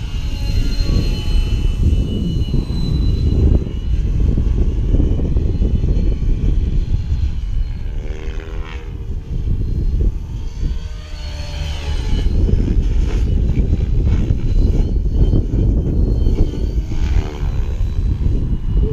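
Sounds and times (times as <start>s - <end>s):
rc helicopter motor whine: 0.0s - 18.9s
wind rumble on microphone: 0.0s - 18.9s.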